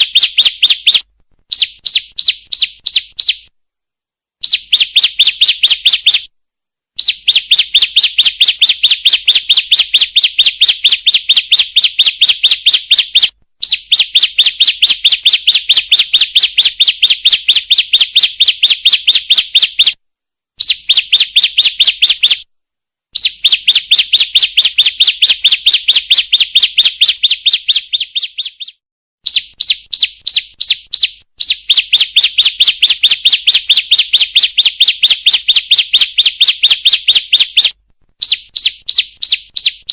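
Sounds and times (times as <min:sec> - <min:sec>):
bird rapid high chirps: 0:00.0 - 0:03.5, 0:04.4 - 0:06.3, 0:07.0 - 0:20.0, 0:20.6 - 0:22.5, 0:23.1 - 0:39.9.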